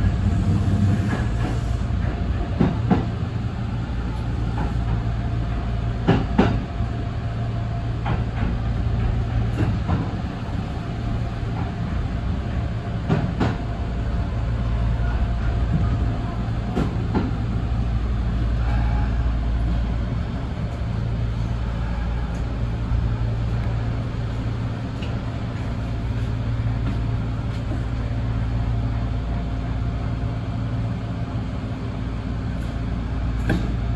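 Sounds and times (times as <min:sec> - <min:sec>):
train running rumble: 0:00.0 - 0:33.9.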